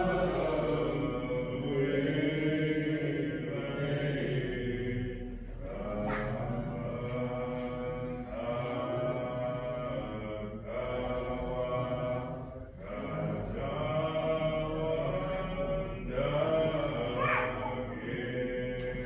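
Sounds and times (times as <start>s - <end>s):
voices singing a slow hymn: 0.0s - 19.0s.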